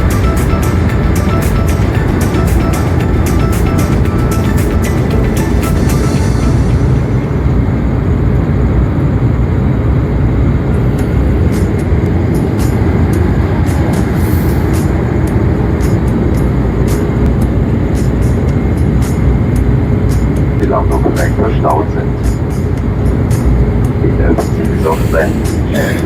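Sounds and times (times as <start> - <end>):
airliner engine and airflow rumble: 0.0 - 26.0.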